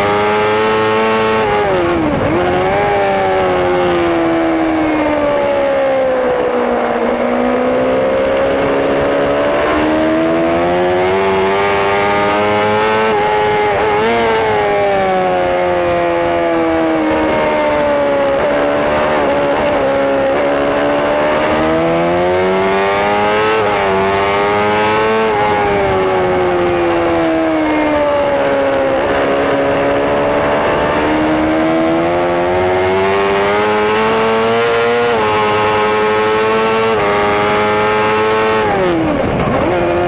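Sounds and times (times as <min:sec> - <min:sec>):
motorcycle engine shifting gears: 0:00.0 - 0:40.0.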